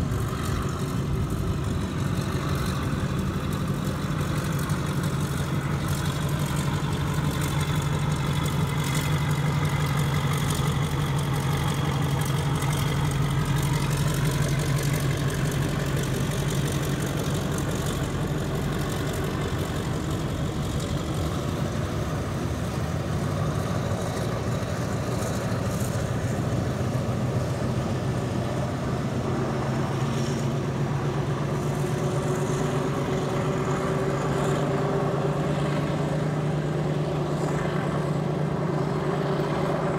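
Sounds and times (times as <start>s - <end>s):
locomotive engine droning: 0.0s - 39.9s.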